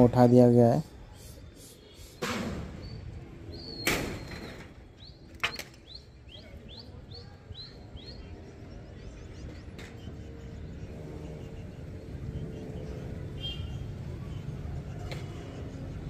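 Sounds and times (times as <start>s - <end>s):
low city hum: 0.0s - 16.0s
bird chirping: 0.3s - 16.0s.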